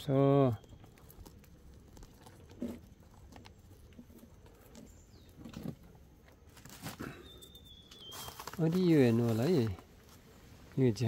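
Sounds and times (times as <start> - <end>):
faint rustling of plant: 0.0 - 11.0.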